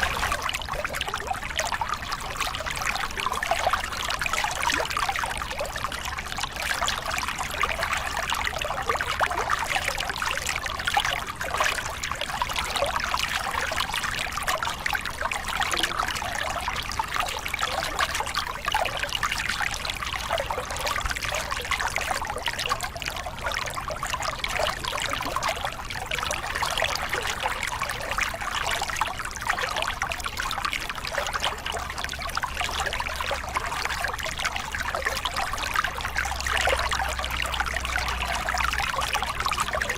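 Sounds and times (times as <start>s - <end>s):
water splashing over rocks: 0.0s - 39.9s.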